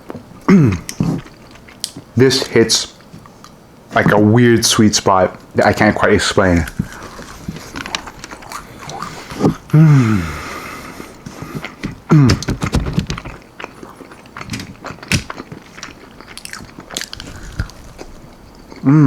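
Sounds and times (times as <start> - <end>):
chewing crunchy food: 0.0 - 4.1, 6.6 - 9.8, 10.7 - 19.0.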